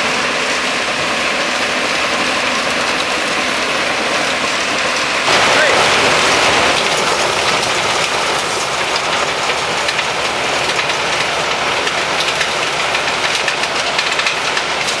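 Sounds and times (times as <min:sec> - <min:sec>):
stone crusher running: 0:00.0 - 0:15.0.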